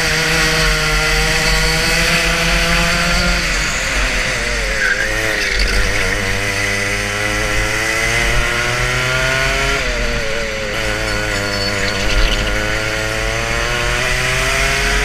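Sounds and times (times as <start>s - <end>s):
racing kart engine revving: 0.0s - 15.0s.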